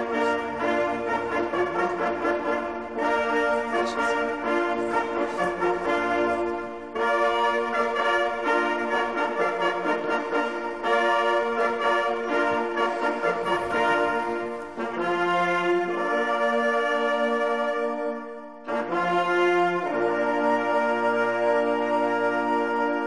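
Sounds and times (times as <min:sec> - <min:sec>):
brass long held chords: 0:00.0 - 0:23.0.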